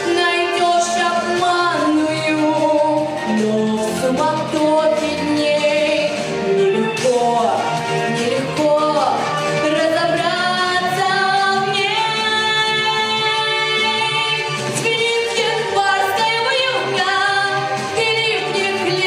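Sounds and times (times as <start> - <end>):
backing track: 0.0 - 19.0
woman singing: 0.0 - 19.0.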